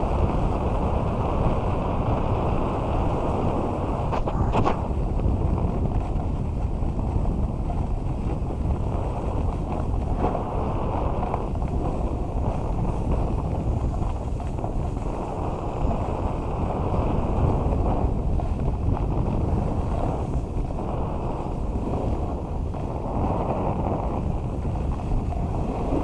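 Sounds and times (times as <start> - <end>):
snowboard scraping on snow: 0.0 - 26.0
wind rushing over microphone: 0.0 - 26.0.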